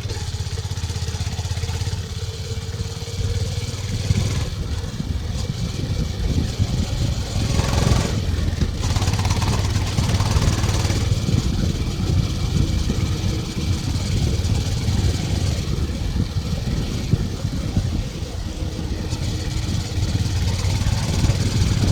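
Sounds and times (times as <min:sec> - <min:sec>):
motorcycle engine running: 0:00.0 - 0:21.9
wind and road noise: 0:00.0 - 0:21.9.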